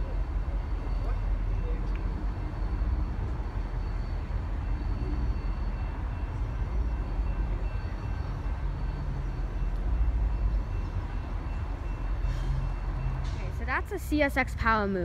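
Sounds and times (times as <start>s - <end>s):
faint whining tones: 0.0s - 13.9s
distant diesel locomotive rumble: 0.0s - 15.0s.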